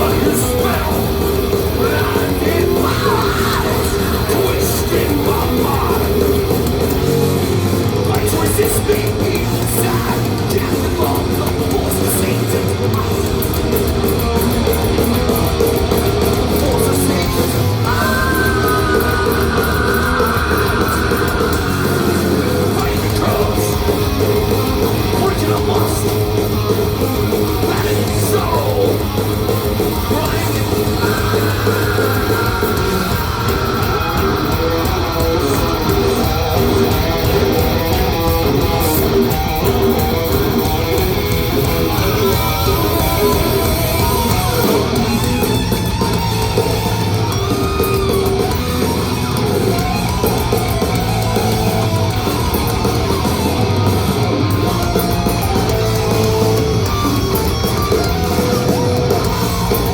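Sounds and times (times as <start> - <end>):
heavy metal band playing: 0.0 - 59.9
sliding guitar notes: 0.0 - 59.9.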